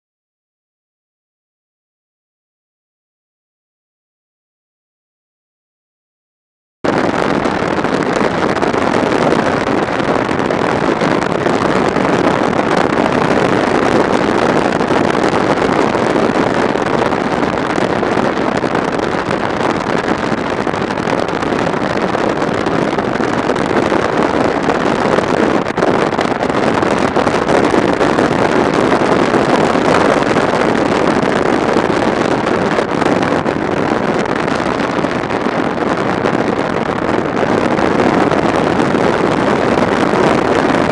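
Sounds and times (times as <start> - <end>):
wind rushing on microphone: 6.8 - 40.9
motorcycle road and engine noise: 6.9 - 40.9.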